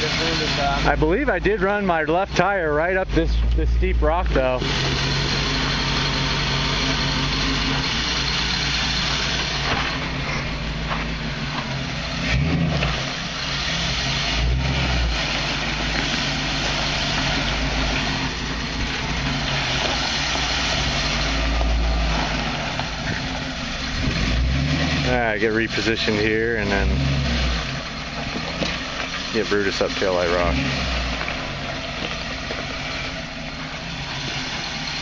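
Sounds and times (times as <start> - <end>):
off-road vehicle engine: 0.0 - 35.0.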